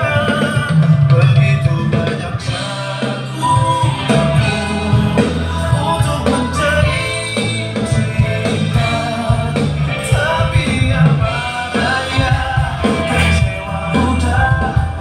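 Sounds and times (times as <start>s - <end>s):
live band with singer: 0.0s - 15.0s
strong bass line: 0.0s - 15.0s.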